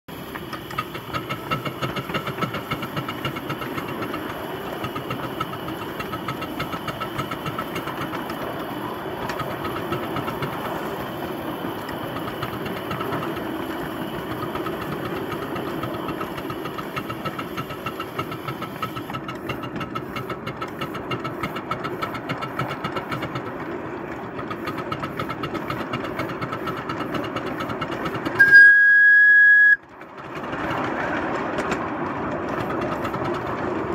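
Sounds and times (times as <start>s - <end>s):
model locomotive wheels clattering: 0.1s - 33.9s.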